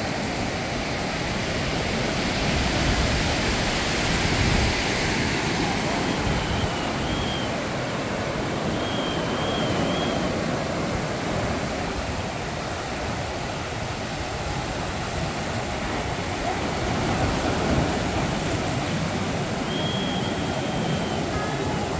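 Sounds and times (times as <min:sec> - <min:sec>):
ocean surf breaking: 0:00.0 - 0:21.9.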